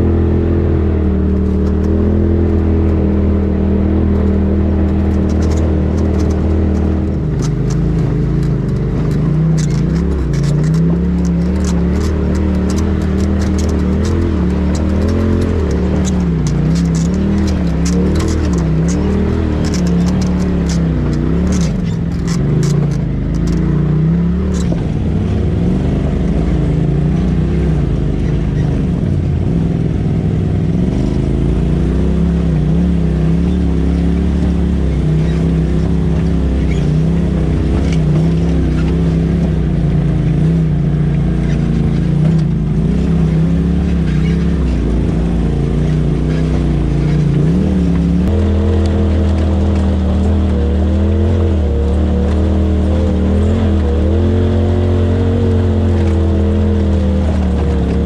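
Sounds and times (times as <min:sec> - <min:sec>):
utility vehicle engine running: 0:00.0 - 0:58.0
sharp clicks and knocks: 0:01.2 - 0:03.3, 0:04.0 - 0:58.0.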